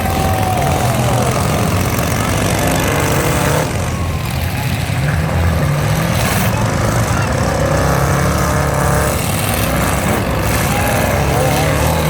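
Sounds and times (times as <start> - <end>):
truck engines revving loudly: 0.0 - 12.0.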